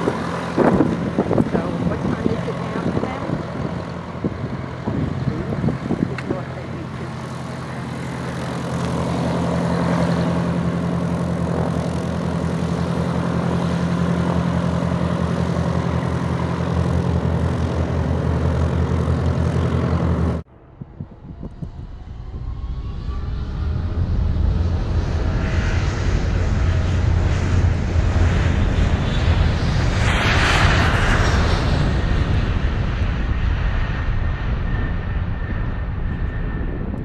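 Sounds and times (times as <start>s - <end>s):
distant engine: 0.0s - 37.0s
light plane engine droning: 0.0s - 37.0s.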